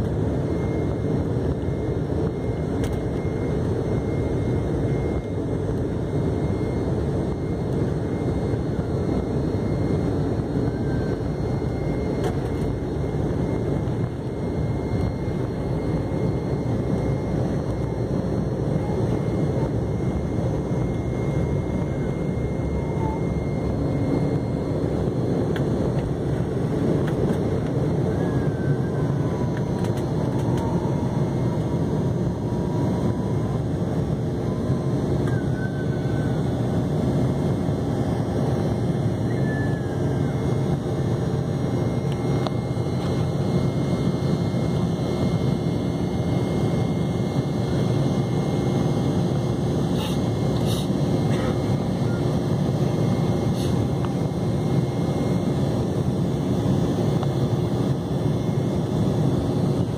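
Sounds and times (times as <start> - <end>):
jet engines rumbling inside cabin: 0.0 - 59.9.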